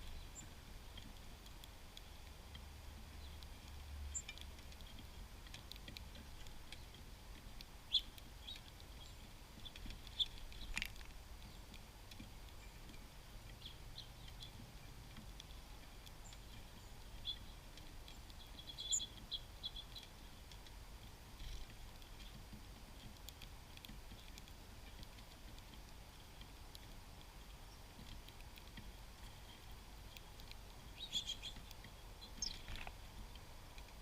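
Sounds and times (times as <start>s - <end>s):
songbirds chipping: 0.0s - 34.0s.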